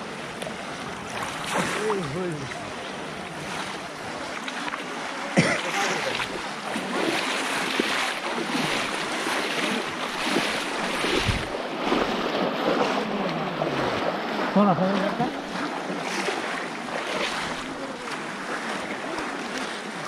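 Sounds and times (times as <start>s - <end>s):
muddy water sloshing and splashing: 0.0s - 20.0s.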